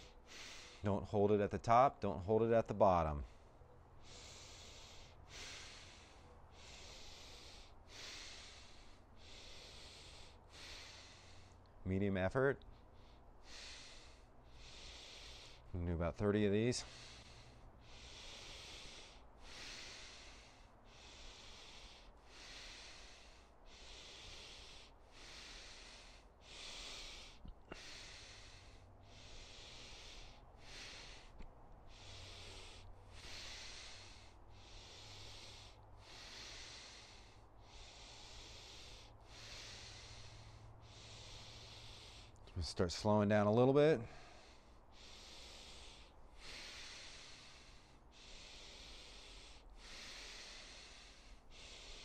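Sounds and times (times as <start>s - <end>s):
man breathing through nose: 0.0s - 0.9s, 3.2s - 11.8s, 12.6s - 15.8s, 16.8s - 52.0s.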